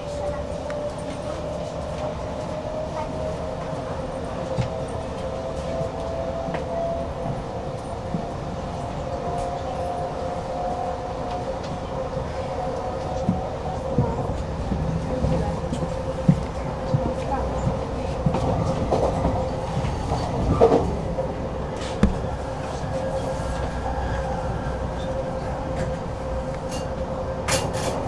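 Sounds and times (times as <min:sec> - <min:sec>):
electric train whine: 0:00.0 - 0:28.0
wheels rumbling on rails: 0:00.0 - 0:28.0.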